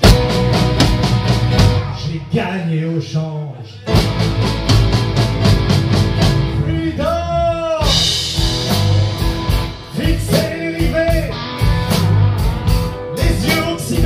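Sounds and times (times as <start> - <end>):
blues-rock band playing: 0.0 - 2.3, 3.8 - 14.0
electric guitar bending notes: 0.0 - 2.3, 3.9 - 14.0.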